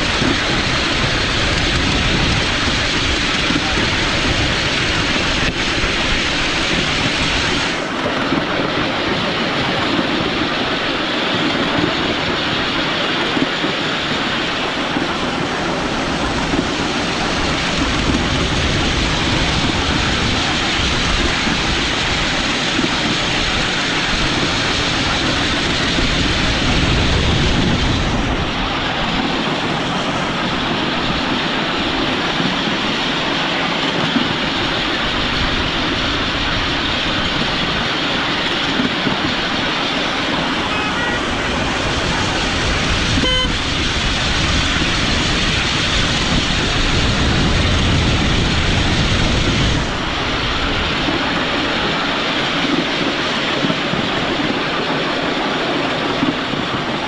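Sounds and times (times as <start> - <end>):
miniature train running on track: 0.0 - 57.0.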